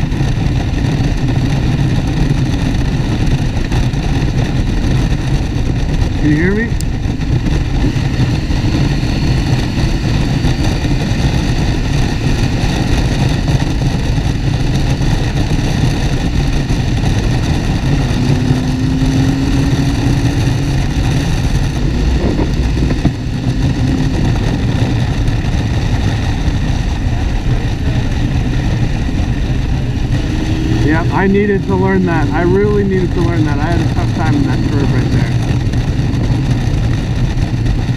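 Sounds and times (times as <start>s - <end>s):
motorcycle engine running: 0.0s - 37.9s
wind rush: 0.0s - 37.9s.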